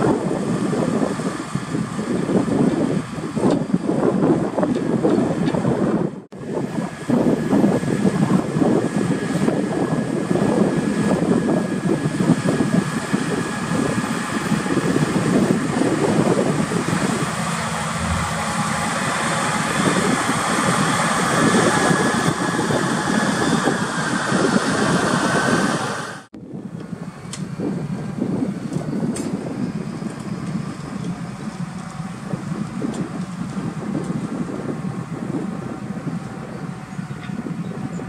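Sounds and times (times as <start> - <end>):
high engine whine: 0.0 - 38.0
tractor diesel engine under load: 0.0 - 38.0
wind buffeting microphone: 0.0 - 38.0.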